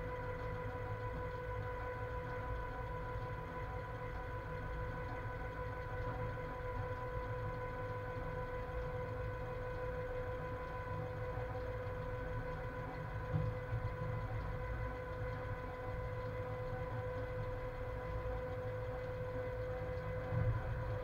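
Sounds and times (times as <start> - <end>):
constant high hum: 0.0 - 21.0.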